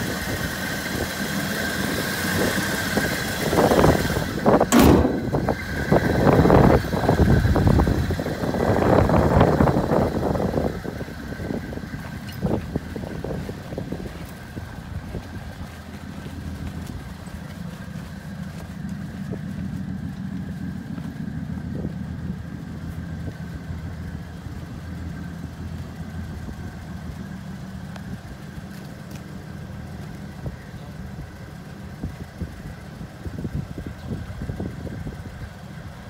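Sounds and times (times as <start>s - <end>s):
car engine running: 0.0s - 36.0s.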